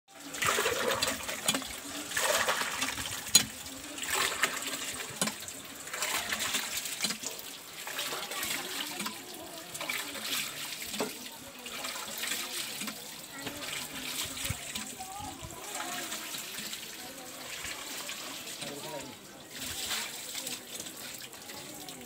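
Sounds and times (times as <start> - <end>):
water gushing and splashing: 0.1 - 22.0.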